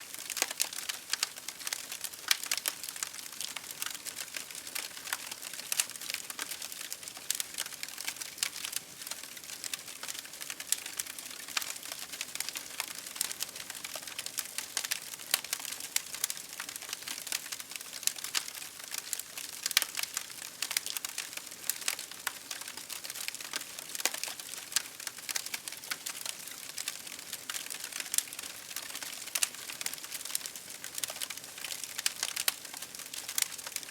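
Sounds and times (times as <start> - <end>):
campfire crackling: 0.1 - 33.9.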